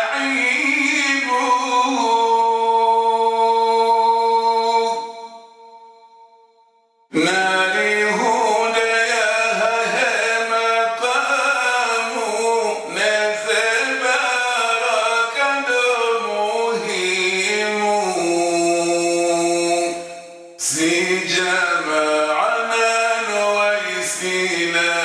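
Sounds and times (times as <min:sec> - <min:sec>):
man chanting: 0:00.0 - 0:05.3, 0:07.1 - 0:25.0.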